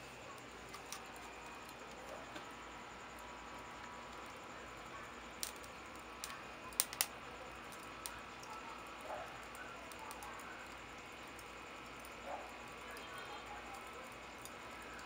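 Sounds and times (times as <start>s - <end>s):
faint steady fire hiss: 0.0s - 15.0s
wood crackling and popping: 0.0s - 15.0s.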